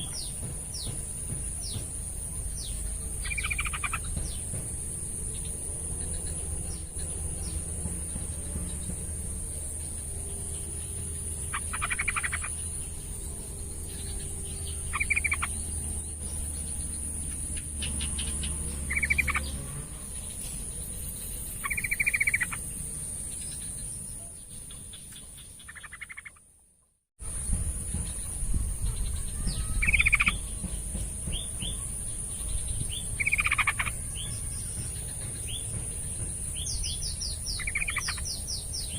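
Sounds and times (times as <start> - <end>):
bird chattering trills: 0.0 - 26.4, 27.4 - 38.9.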